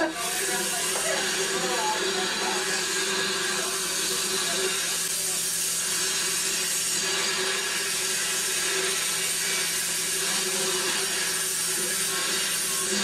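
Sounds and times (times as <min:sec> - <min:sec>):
steam hissing: 0:00.0 - 0:13.0
steam locomotive running: 0:00.0 - 0:13.0.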